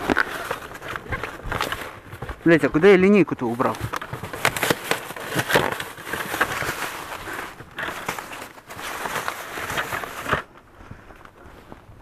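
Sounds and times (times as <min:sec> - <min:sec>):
plastic bag rustling: 0:00.0 - 0:10.6.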